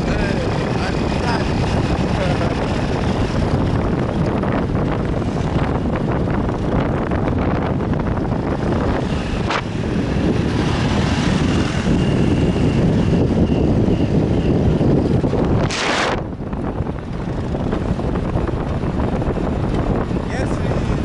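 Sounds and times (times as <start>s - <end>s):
motorbike engine: 0.0s - 21.0s
wind buffeting microphone: 0.0s - 21.0s.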